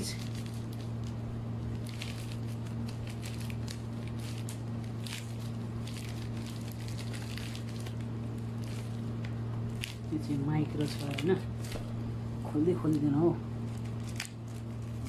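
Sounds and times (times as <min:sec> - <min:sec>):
plastic bag crinkling: 0:00.0 - 0:12.0, 0:13.6 - 0:15.0
steady low hum: 0:00.0 - 0:15.0.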